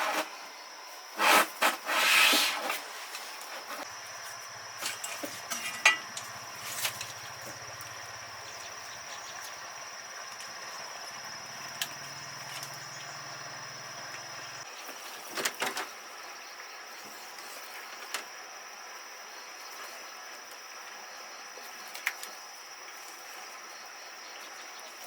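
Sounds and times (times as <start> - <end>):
insect drone: 0.0 - 25.0.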